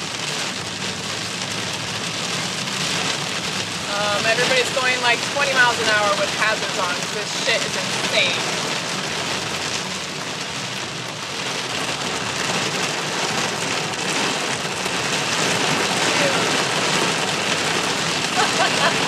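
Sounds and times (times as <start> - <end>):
heavy rain on car windshield: 0.0 - 19.0.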